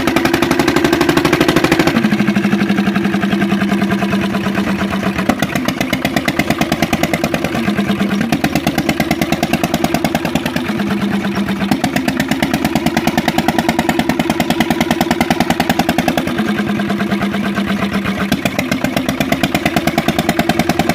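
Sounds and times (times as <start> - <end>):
engine thudding: 0.0 - 20.9.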